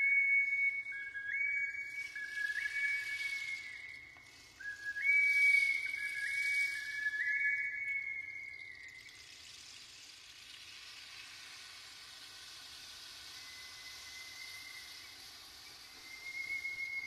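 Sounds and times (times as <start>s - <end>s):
faint high whistle tone: 0.0s - 17.0s
soft high-pitched hiss: 0.0s - 17.0s.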